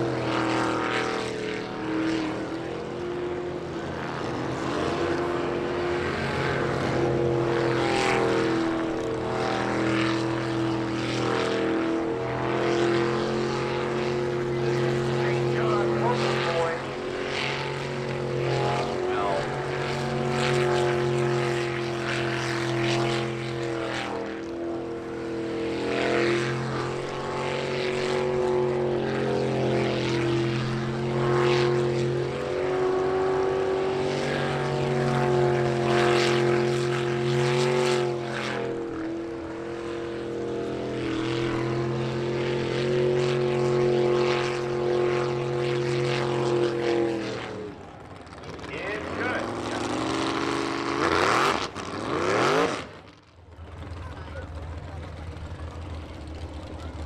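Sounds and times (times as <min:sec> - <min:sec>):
boat engine racing: 0:00.0 - 0:57.0.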